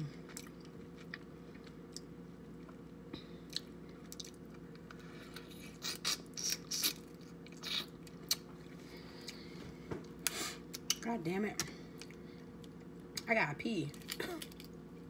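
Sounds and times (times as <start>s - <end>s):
person chewing crab meat: 0.0s - 11.0s, 11.6s - 13.2s.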